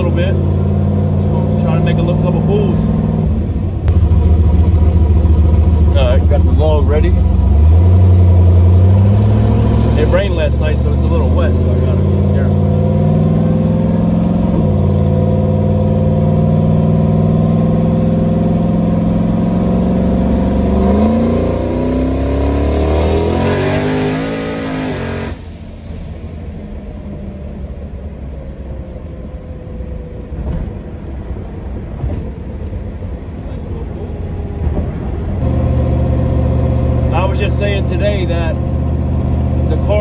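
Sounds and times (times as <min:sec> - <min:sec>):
car engine revving: 0:00.0 - 0:26.8, 0:33.4 - 0:40.0
road noise: 0:00.0 - 0:40.0.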